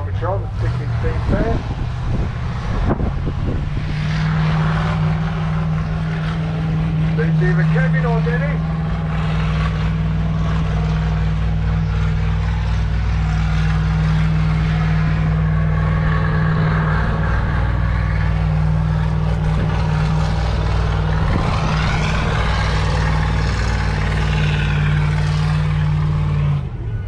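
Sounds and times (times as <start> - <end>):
diesel engine running: 0.0 - 27.0
rising whine: 0.0 - 27.0.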